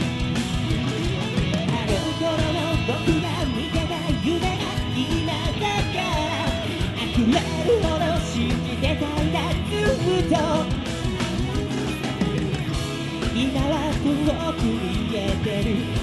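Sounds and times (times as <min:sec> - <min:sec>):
live rock band: 0:00.0 - 0:16.0
lead vocalist singing: 0:01.4 - 0:16.0.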